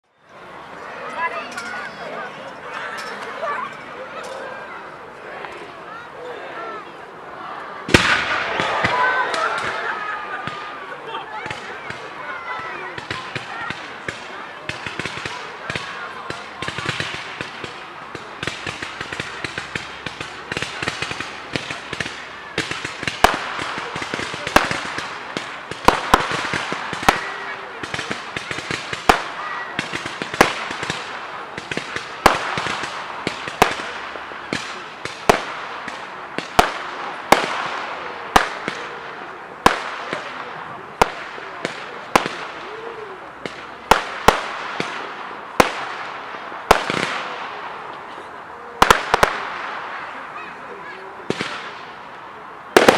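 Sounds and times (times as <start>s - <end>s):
faint voices: 0.0s - 52.9s
fireworks bangs: 7.8s - 52.9s
fireworks crackling and fizzing: 7.8s - 52.9s.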